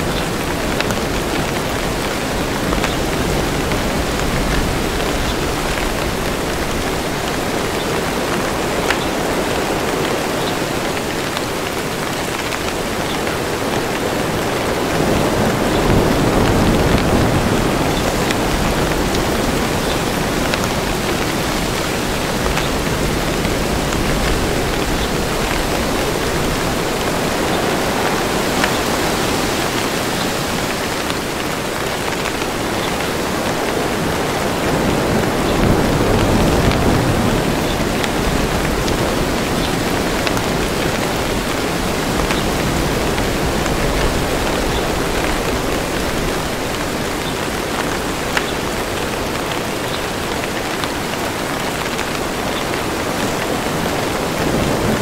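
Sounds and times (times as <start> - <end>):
raindrops ticking: 0.0 - 55.0
steady rain: 0.0 - 55.0.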